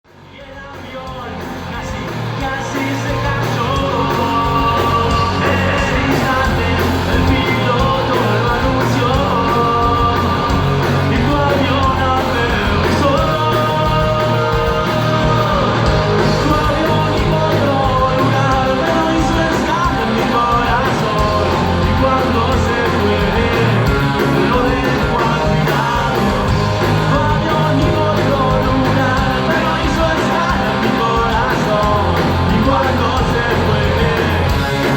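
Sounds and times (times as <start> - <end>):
rock band playing live: 0.1 - 34.9
person singing: 0.2 - 34.9.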